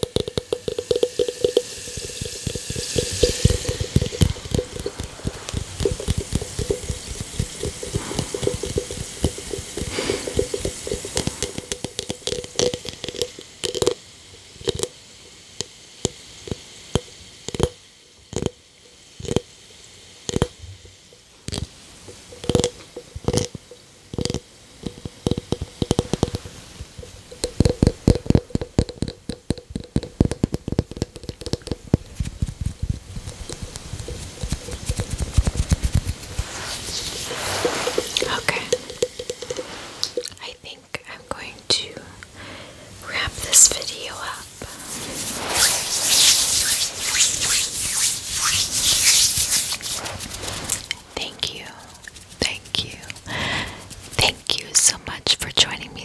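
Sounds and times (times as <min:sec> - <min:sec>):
bubbles crackling and popping: 0:00.0 - 0:15.0, 0:15.6 - 0:19.6, 0:20.2 - 0:41.6, 0:42.2 - 0:52.4
bath bomb fizzing in water: 0:00.0 - 0:54.8.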